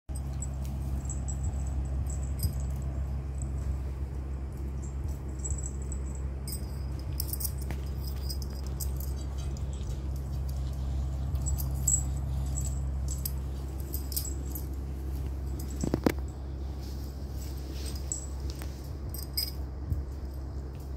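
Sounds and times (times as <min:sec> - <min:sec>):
collar tag jingling: 0:00.1 - 0:20.9
steady low hum: 0:00.1 - 0:20.9.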